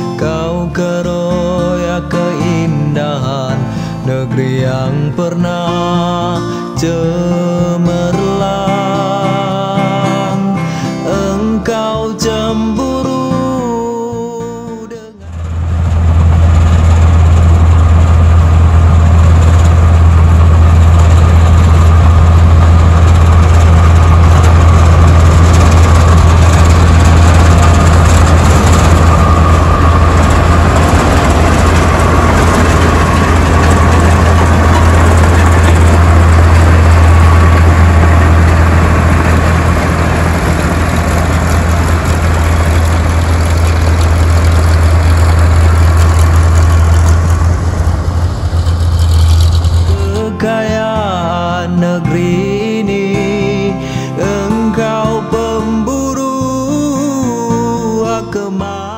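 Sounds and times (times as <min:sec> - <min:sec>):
combine harvester engine: 0:00.0 - 0:14.0, 0:15.1 - 0:58.9.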